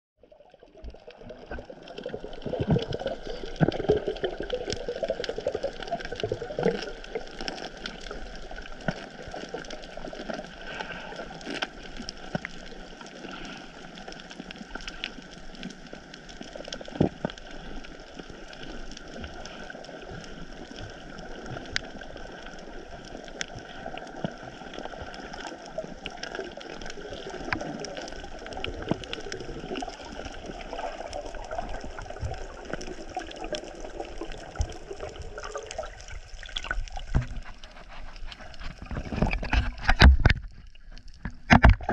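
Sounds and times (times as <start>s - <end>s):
small underwater clicks and crackles: 0.2s - 41.9s.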